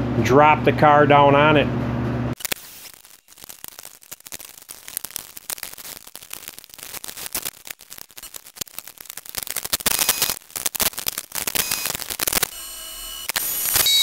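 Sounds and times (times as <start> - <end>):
high whine: 0.0 - 14.0.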